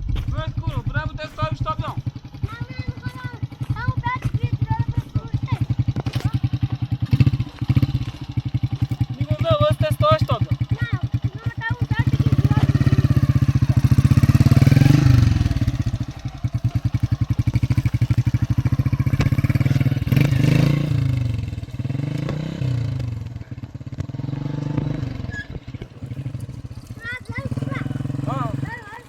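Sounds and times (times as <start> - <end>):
small motorcycle engine revving: 0.0 - 29.0.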